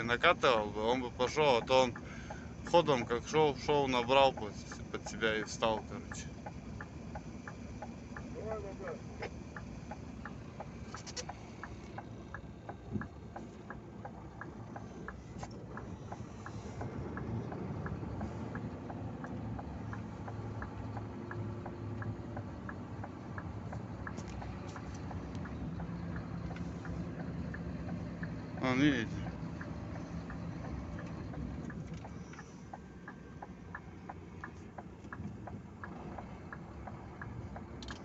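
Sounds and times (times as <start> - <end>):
diesel engine idling: 0.0 - 38.0
light ticking: 0.0 - 38.0.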